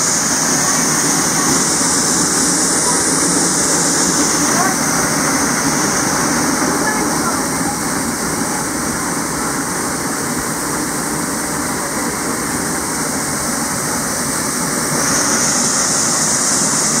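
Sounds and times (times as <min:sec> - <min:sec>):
waterfall crashing into pool: 0:00.0 - 0:17.0.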